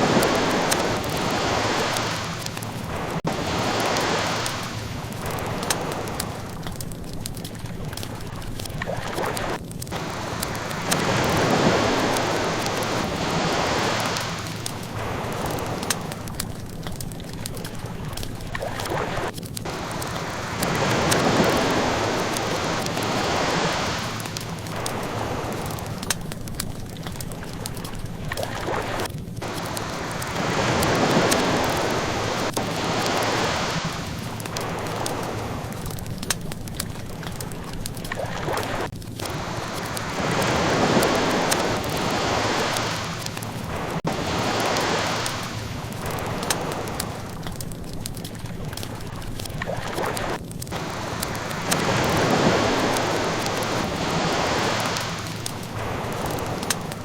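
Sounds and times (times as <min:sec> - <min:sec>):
ocean waves washing in: 0:00.0 - 0:57.0
wood fire crackling: 0:00.0 - 0:57.0.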